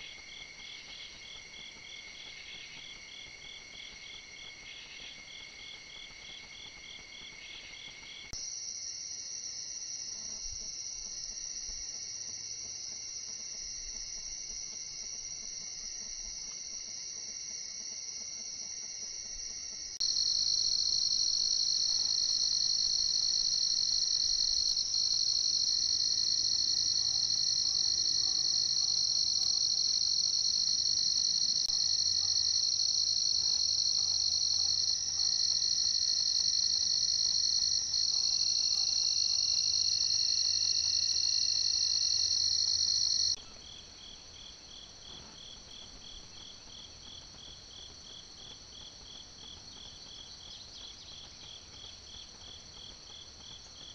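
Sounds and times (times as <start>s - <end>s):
night insects chorus: 0.0s - 53.9s
rapid pulsing insect call: 0.0s - 53.9s.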